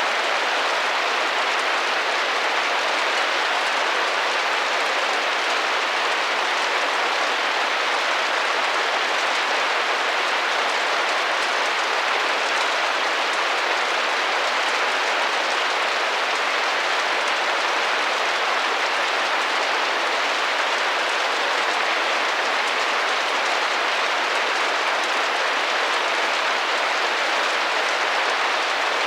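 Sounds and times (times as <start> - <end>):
rain pattering on a window: 0.0 - 29.0.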